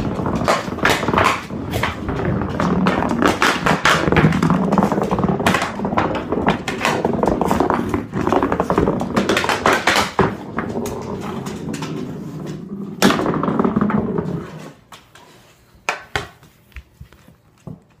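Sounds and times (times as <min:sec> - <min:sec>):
hockey stick and ball clatter: 0:00.0 - 0:17.1
dog playing on hardwood floor: 0:00.0 - 0:18.0.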